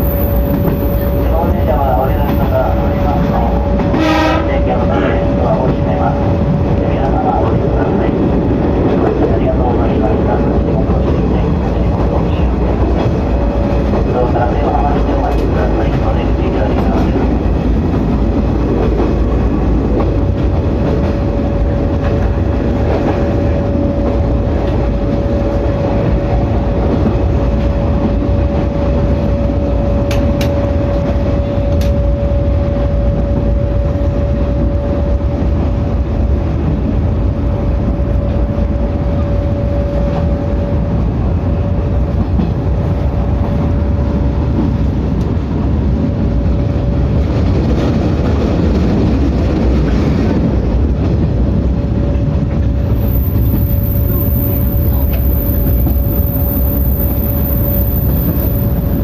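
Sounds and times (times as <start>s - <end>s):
electric train rumbling: 0.0s - 59.0s
train whine: 0.0s - 59.0s.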